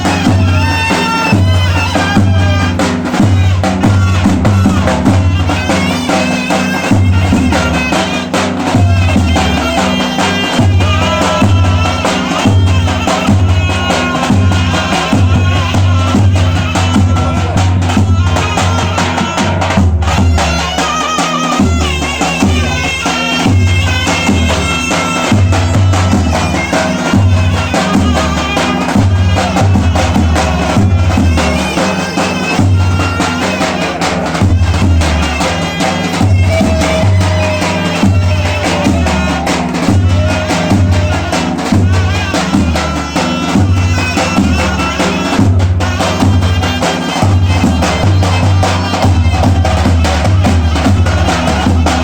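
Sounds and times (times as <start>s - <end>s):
large bass drum beating: 0.0s - 52.0s
shrill double-reed melody: 0.0s - 52.0s.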